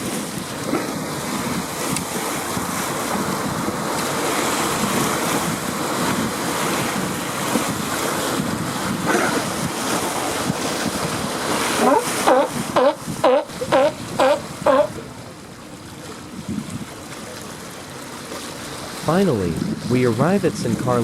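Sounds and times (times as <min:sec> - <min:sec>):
ocean surf washing ashore: 0:00.0 - 0:21.0
wind on microphone: 0:00.0 - 0:21.0.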